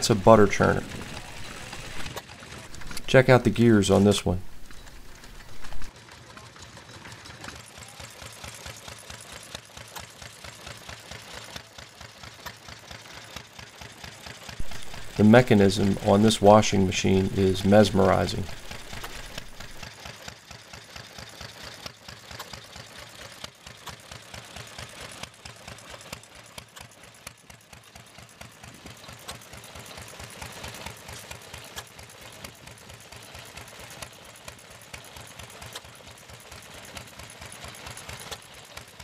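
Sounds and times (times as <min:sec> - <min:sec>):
belt-driven machinery clattering: 0:00.0 - 0:39.0
stationary engine running: 0:00.0 - 0:39.0.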